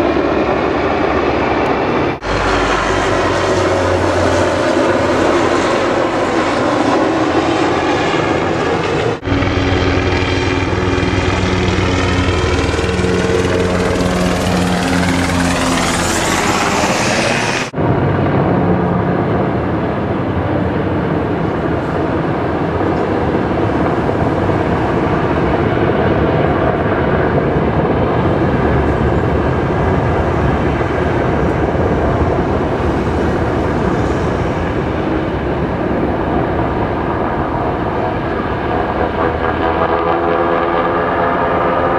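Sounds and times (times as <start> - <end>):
helicopter rotor noise: 0.0 - 41.9.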